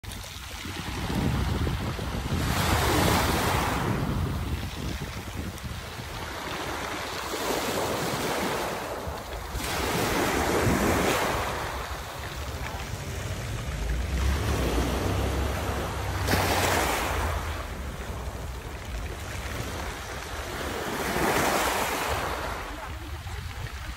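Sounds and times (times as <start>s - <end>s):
waves washing up pebble beach: 0.0s - 23.9s
wind buffeting microphone: 0.0s - 23.9s.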